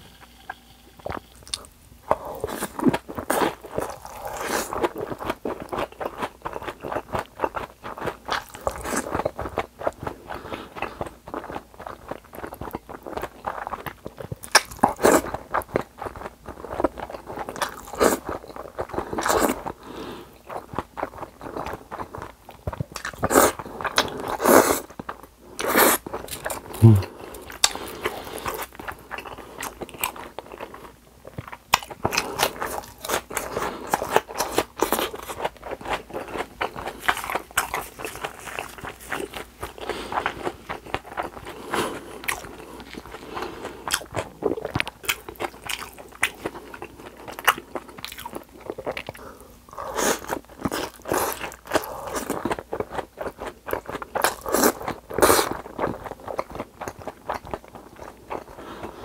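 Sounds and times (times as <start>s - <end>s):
crunching and chewing fried food: 0.0s - 59.0s.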